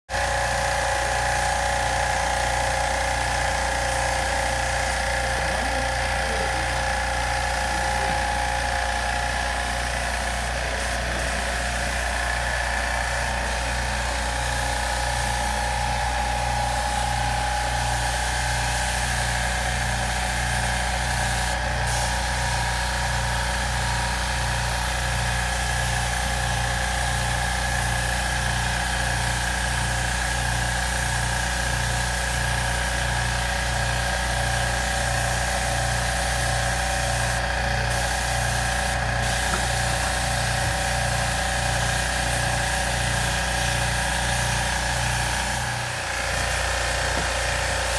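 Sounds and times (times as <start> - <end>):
electric pump humming: 0.1 - 47.9
hiss of spray: 9.1 - 47.9.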